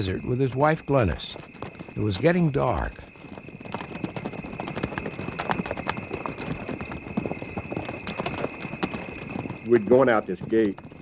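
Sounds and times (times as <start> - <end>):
horse hoofbeats clattering: 0.0 - 11.0.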